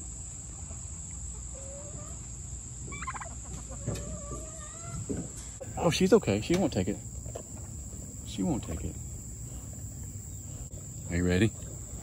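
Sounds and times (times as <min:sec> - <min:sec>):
turkeys calling softly: 0:00.5 - 0:12.0.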